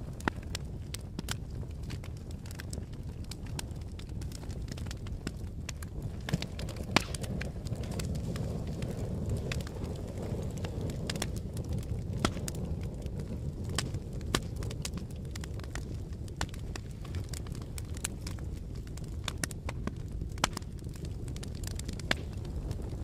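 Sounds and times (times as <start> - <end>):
fire burning with low rumble: 0.0 - 23.0
fire crackles and pops: 0.0 - 23.0.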